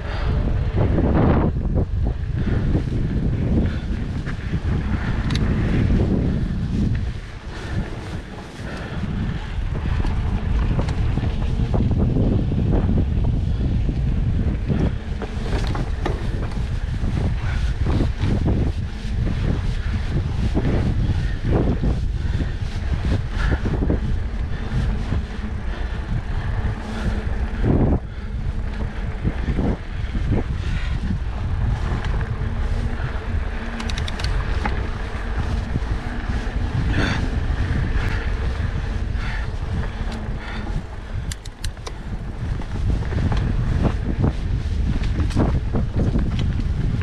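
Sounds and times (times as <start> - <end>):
bike knocking and rattling: 0.0 - 47.0
bike tyres rolling on dirt: 0.0 - 47.0
wind buffeting microphone: 0.0 - 47.0.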